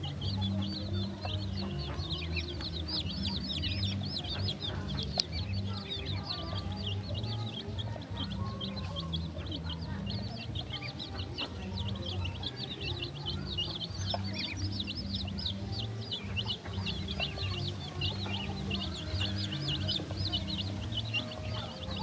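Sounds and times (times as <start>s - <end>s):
chicks and ducklings peeping: 0.0s - 22.0s.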